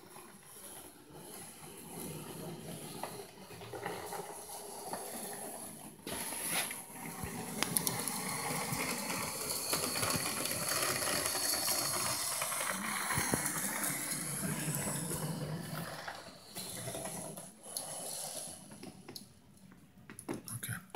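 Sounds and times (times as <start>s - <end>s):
model locomotive whirr and rattle: 0.0s - 19.0s.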